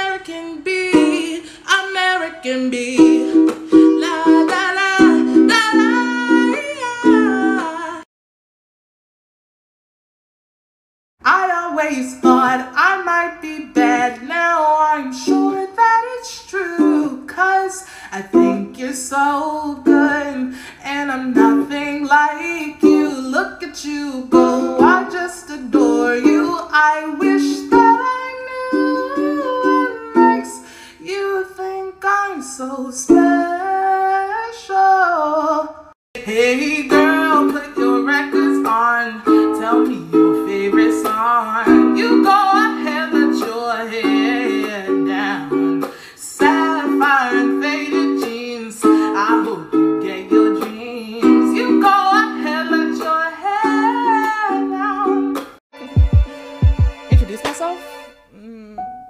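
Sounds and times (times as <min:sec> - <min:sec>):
ukulele strumming: 0:00.0 - 0:08.0, 0:11.5 - 0:30.6, 0:33.1 - 0:34.1, 0:36.2 - 0:58.1
woman singing: 0:00.0 - 0:08.1, 0:11.3 - 0:56.2.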